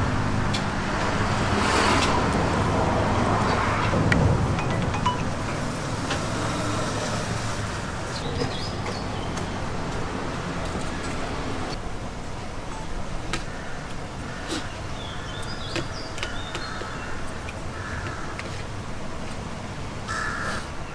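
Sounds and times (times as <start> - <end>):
street traffic noise: 0.0 - 20.9.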